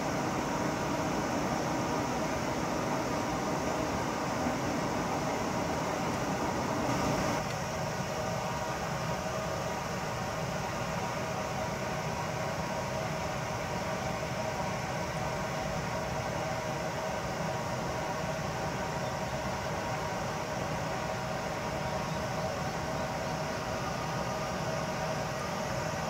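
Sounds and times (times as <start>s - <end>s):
mechanical hum with hiss: 0.0s - 26.0s.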